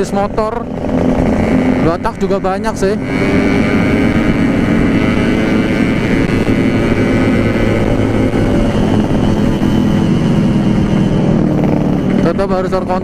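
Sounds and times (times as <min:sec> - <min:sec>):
two-stroke motorcycle engine running: 0:00.0 - 0:13.0.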